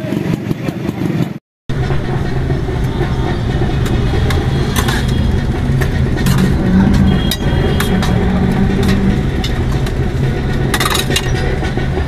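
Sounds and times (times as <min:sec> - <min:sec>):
street noise: 0:00.0 - 0:12.0
engine idling: 0:01.7 - 0:12.0.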